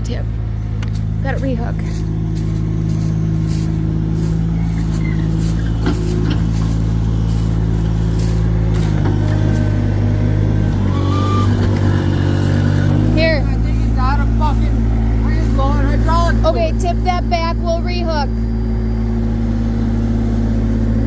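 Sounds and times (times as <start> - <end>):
heavy vehicle engine idling: 0.0 - 21.0.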